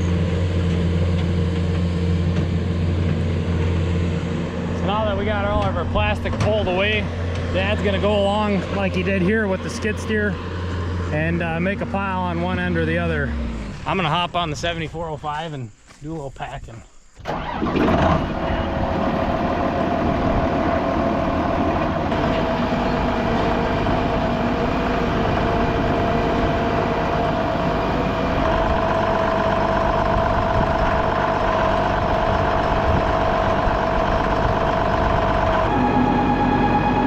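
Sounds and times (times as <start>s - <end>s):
tractor engine running: 0.0s - 15.6s, 17.2s - 37.0s
constant whine: 0.0s - 37.0s.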